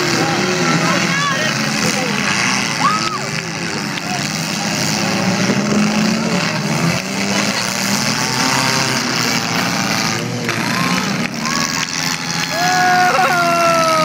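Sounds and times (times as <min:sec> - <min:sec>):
small engines revving: 0:00.0 - 0:14.0.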